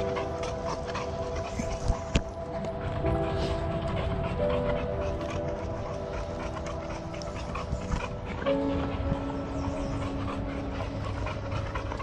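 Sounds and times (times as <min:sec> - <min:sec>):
background music with held chords: 0:00.0 - 0:12.0
rumble of walking and camera handling: 0:00.0 - 0:12.0.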